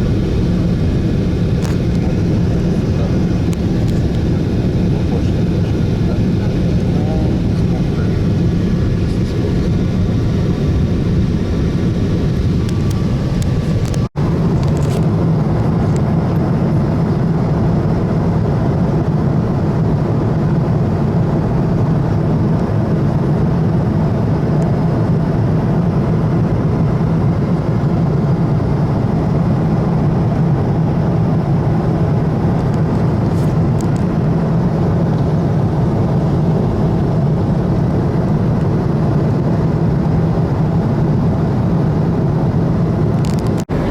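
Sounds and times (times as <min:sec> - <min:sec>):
moving vehicle drone: 0:00.0 - 0:43.9.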